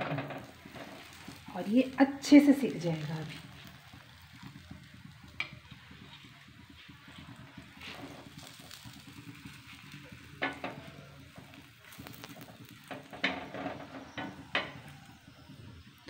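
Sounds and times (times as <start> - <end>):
flatbread sizzling in oil: 0.0 - 16.0.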